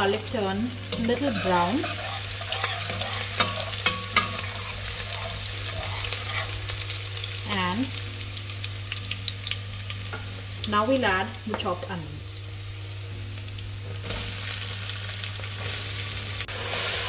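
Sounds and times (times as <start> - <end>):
garlic sizzling in hot ghee: 0.0 - 17.0.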